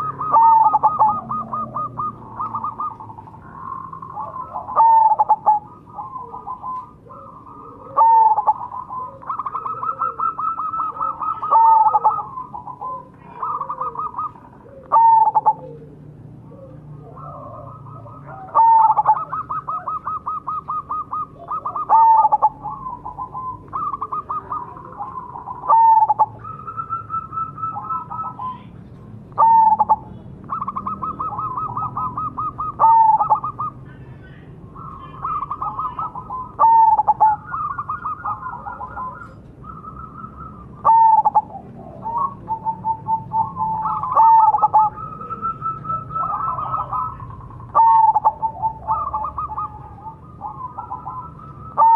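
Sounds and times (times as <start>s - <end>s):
dove stuttering coos: 0.0s - 28.7s, 29.3s - 33.9s, 34.6s - 51.9s.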